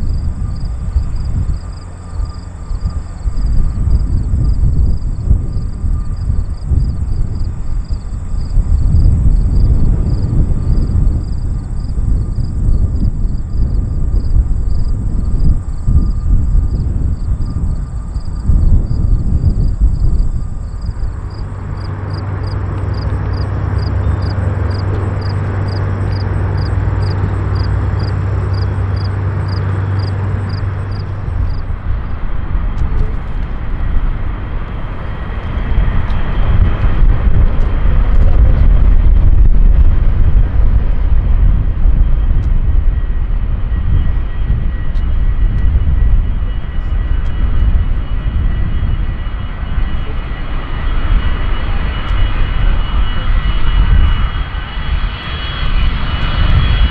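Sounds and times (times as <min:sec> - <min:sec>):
jet engine whine: 0:00.0 - 0:56.9
jet engines taxiing rumble: 0:00.0 - 0:56.9
low hum: 0:00.0 - 0:56.9.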